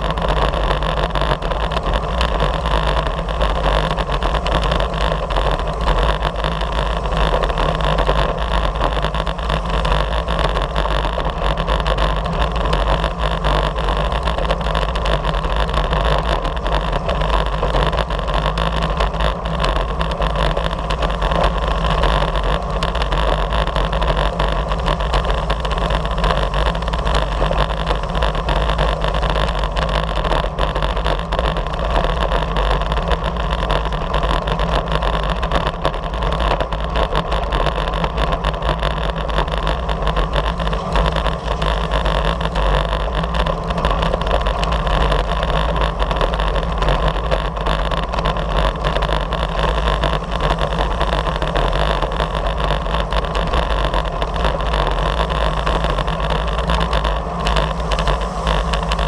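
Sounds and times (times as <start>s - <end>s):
tyres humming on asphalt: 0.0s - 59.0s
wind rushing over microphone: 0.0s - 59.0s.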